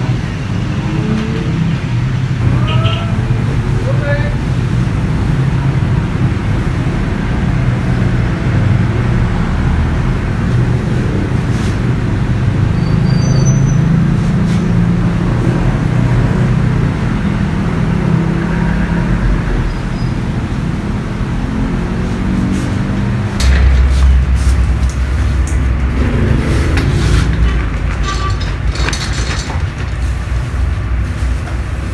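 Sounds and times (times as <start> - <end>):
road noise: 0.0 - 31.9
vehicle engine rumbling: 0.0 - 31.9.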